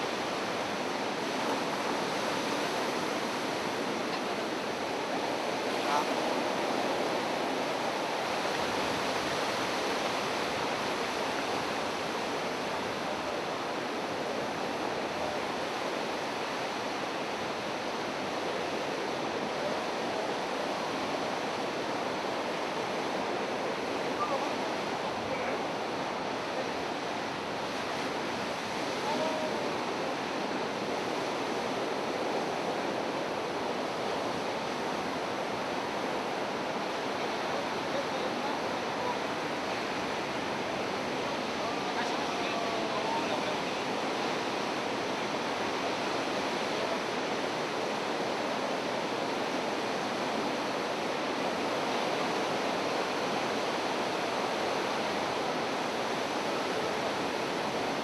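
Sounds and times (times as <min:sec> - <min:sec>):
sea surf rushing: 0:00.0 - 0:58.0.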